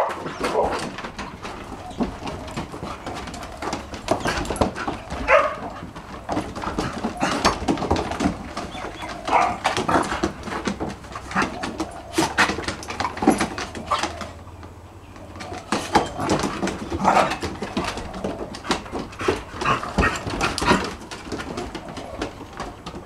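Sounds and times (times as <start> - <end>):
dog paws scrabbling on wooden deck: 0.0 - 23.0.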